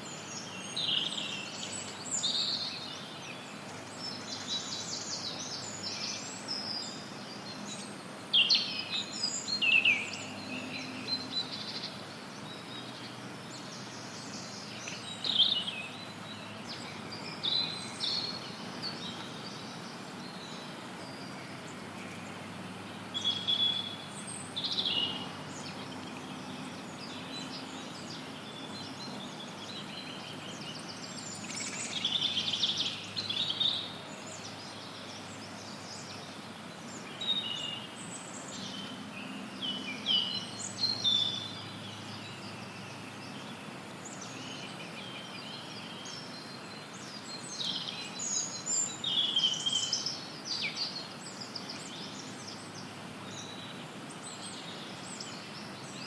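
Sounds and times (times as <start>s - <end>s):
birds chirping: 0.0s - 56.0s
white noise hiss: 0.0s - 56.0s.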